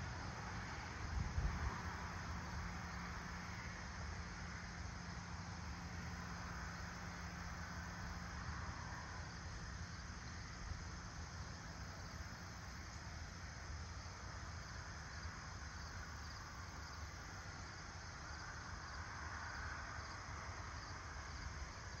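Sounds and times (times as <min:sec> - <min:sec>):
low steady rumble: 0:00.0 - 0:22.0
crickets chirring: 0:00.2 - 0:22.0.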